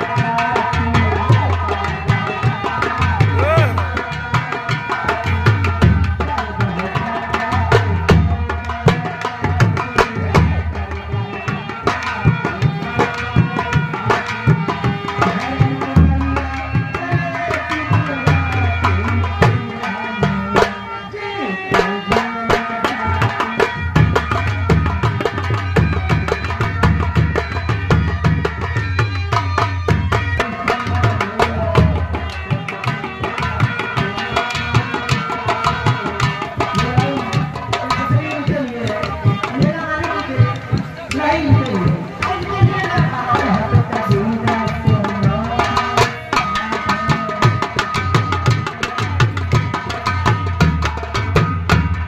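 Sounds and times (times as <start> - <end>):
hand drums beating: 0.0 - 21.0, 21.6 - 52.0.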